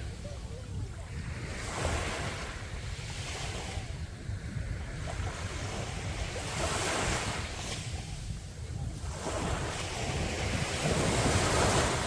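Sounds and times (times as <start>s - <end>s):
sea waves breaking on a beach: 0.0s - 12.0s
wind buffeting the microphone: 0.0s - 12.0s.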